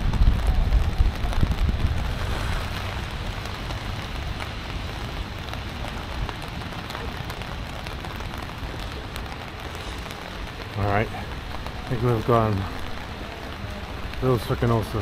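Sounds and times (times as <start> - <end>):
wind rumble on microphone: 0.0 - 12.0
rain hissing: 0.0 - 15.0.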